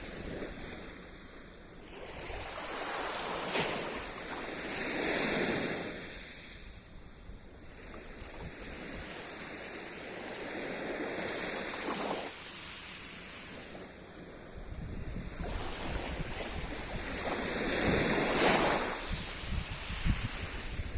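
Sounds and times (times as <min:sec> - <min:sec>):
waves breaking on shore: 0:00.0 - 0:20.9.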